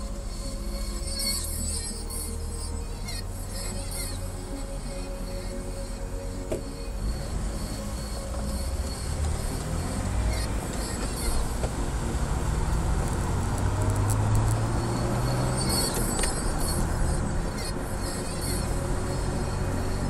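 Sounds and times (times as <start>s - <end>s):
car engine drone: 0.0s - 20.0s
road noise inside car: 0.0s - 20.0s.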